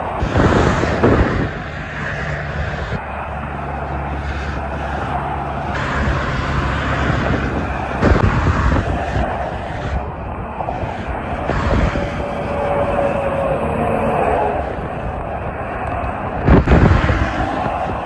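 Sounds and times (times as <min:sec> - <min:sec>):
car and truck engines: 0:00.0 - 0:18.0.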